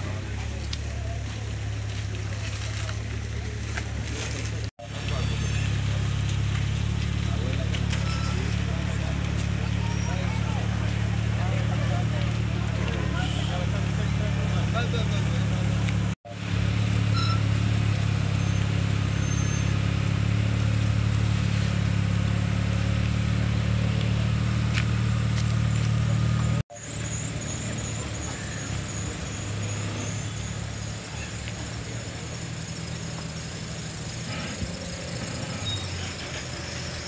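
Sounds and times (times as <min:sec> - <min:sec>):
car engines idling: 0:00.0 - 0:37.0.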